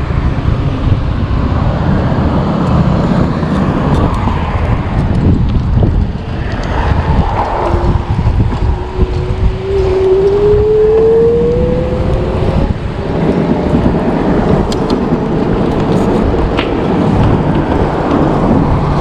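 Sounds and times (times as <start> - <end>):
approaching vehicle engine: 0.0 - 19.0
road traffic rumbling: 0.0 - 19.0
wind buffeting microphone: 0.0 - 19.0.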